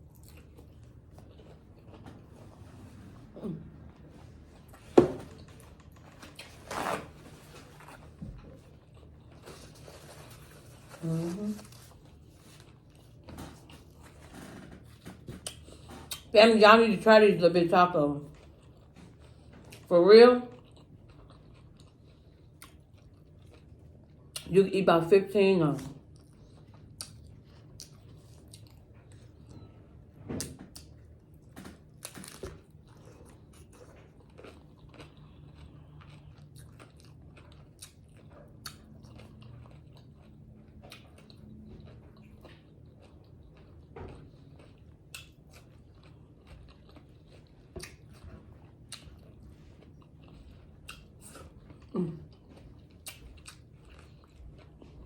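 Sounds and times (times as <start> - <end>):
chewing and crunching tacos: 0.0 - 16.4, 17.0 - 24.5, 25.7 - 55.0.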